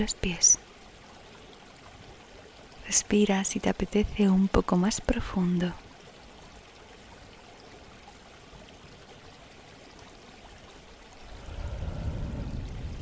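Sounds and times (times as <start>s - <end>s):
running water stream: 0.0s - 13.0s.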